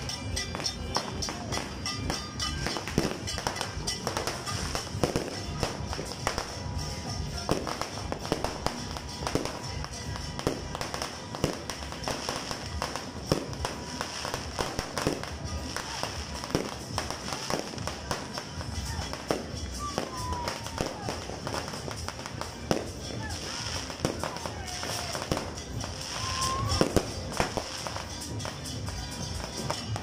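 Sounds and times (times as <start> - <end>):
fireworks bangs and pops: 0.0 - 30.0
music playing: 0.0 - 30.0.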